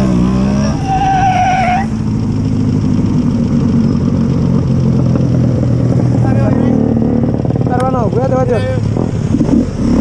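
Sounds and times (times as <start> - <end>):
motorcycle engine revving and idling: 0.0 - 0.8, 1.7 - 10.0.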